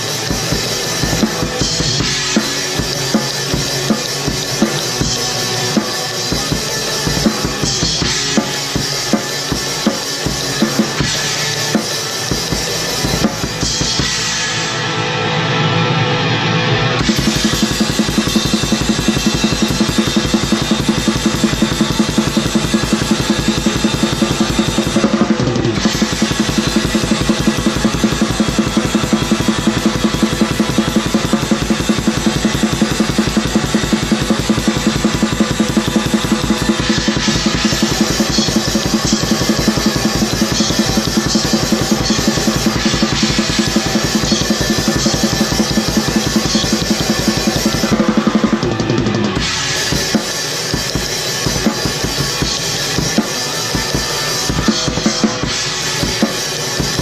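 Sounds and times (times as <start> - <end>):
fast metal drumming: 0.0 - 15.0, 16.9 - 57.0
cymbals and snare: 0.0 - 57.0
rapid bass drum strokes: 0.0 - 57.0.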